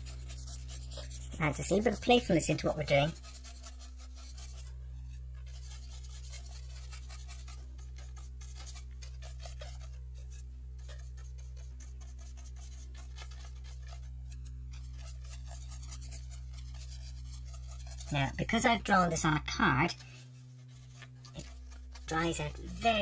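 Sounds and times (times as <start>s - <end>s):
paintbrush scratching on card: 0.0s - 23.0s
steady low hum: 0.0s - 23.0s.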